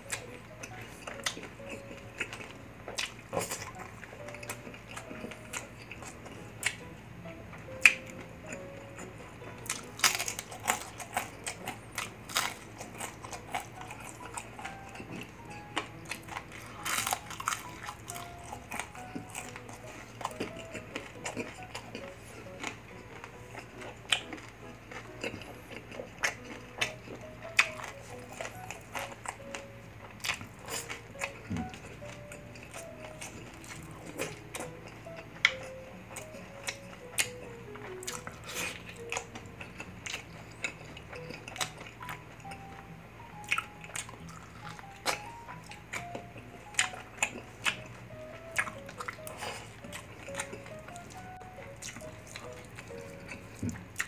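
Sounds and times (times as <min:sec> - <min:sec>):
crunching and chewing fried food: 0:00.0 - 0:54.0
soft background music: 0:00.0 - 0:54.0.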